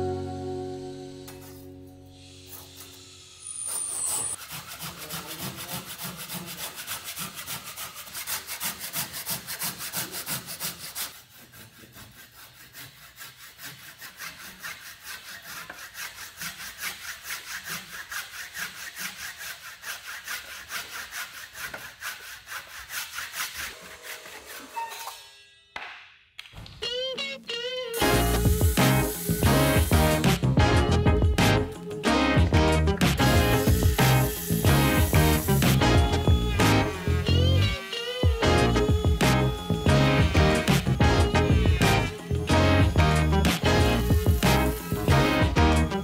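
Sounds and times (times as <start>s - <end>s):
hand saw cutting wood: 2.4s - 25.2s, 28.0s - 32.0s, 32.6s - 46.0s.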